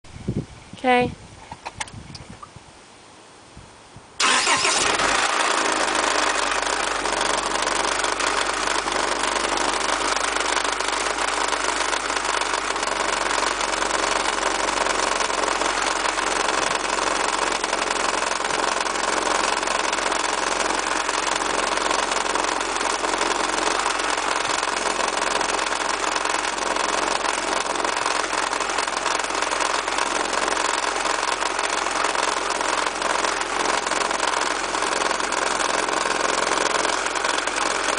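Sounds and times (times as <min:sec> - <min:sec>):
car engine idling: 0:04.2 - 0:37.9
rapid engine knocking: 0:04.2 - 0:37.9.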